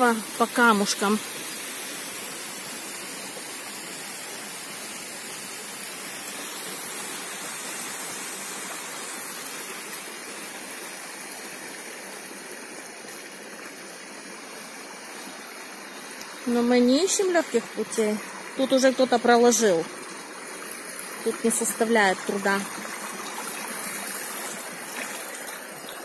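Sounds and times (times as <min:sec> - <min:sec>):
rushing mountain stream and waterfall: 0:00.0 - 0:26.0.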